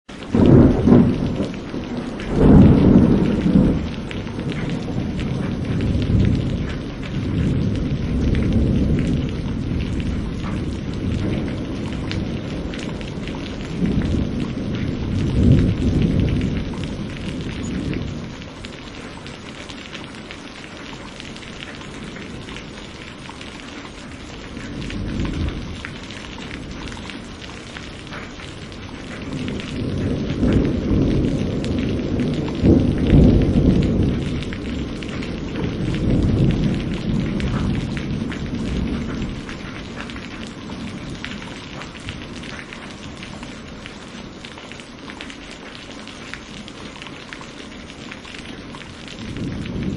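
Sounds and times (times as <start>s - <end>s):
steady rain: 0.0s - 49.9s
rolling thunder: 0.2s - 20.0s, 21.3s - 44.2s, 47.8s - 49.9s.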